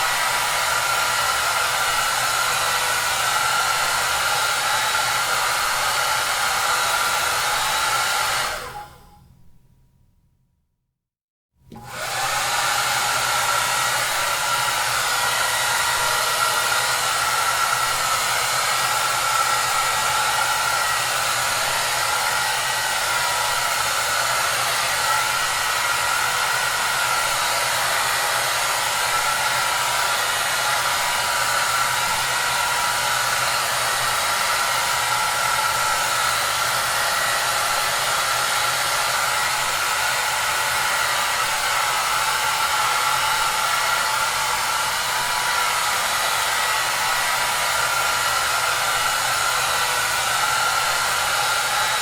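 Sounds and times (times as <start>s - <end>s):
hair dryer running: 0.0s - 9.1s, 11.7s - 52.0s.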